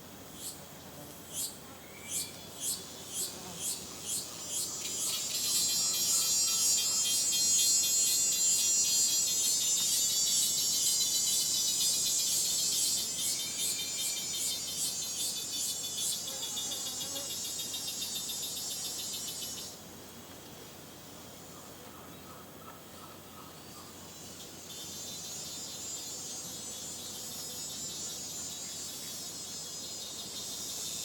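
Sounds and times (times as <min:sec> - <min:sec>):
tropical insects buzzing and trilling: 0:00.0 - 0:31.0.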